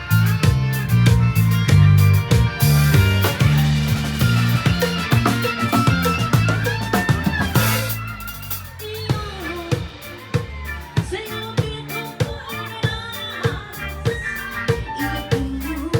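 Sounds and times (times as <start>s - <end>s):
band music with drums and bass: 0.0s - 15.9s.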